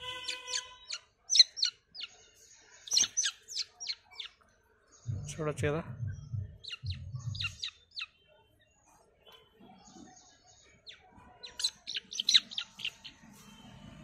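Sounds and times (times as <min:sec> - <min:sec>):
chick peeping: 0:00.0 - 0:04.5, 0:05.1 - 0:14.0.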